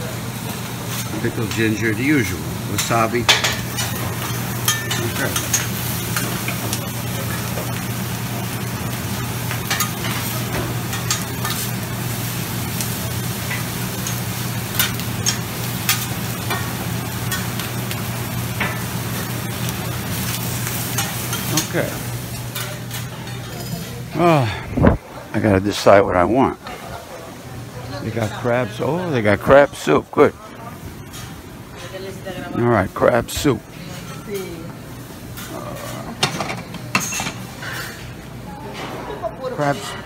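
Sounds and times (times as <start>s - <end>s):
food sizzling on a griddle: 0.0s - 24.6s, 26.8s - 40.0s.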